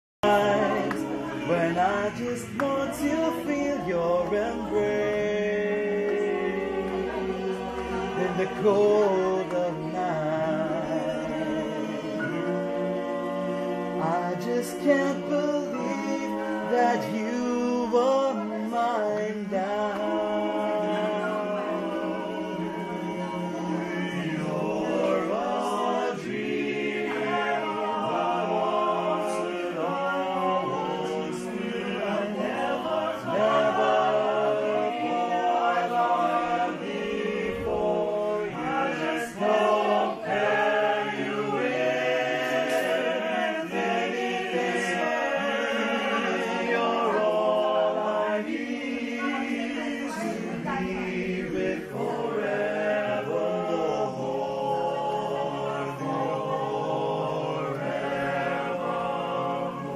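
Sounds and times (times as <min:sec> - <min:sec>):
small choir singing in harmony: 0:00.2 - 0:59.9.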